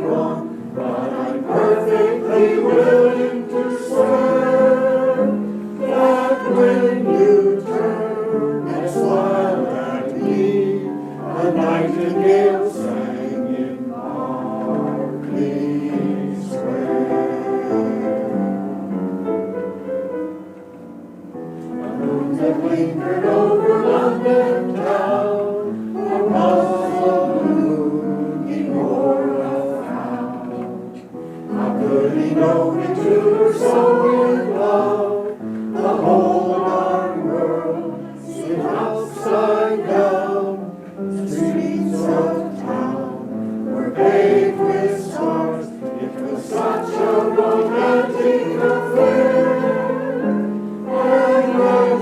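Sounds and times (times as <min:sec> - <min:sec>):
mixed choir singing: 0:00.0 - 0:19.0, 0:21.6 - 0:52.0.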